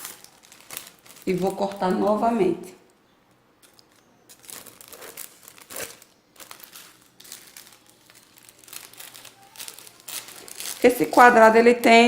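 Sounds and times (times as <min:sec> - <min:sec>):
cellophane crinkling: 0:00.0 - 0:02.4, 0:03.6 - 0:11.9.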